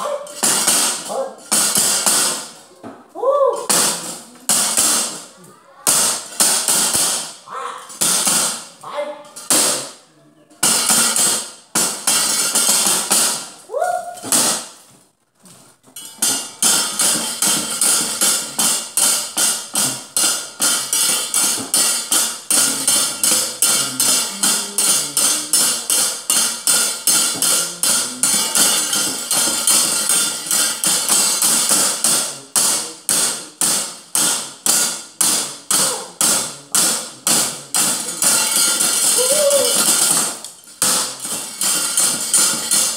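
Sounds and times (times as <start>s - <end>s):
sharp clacks on metal plates: 0.0s - 2.7s, 3.6s - 10.0s, 10.6s - 13.6s, 15.9s - 42.9s.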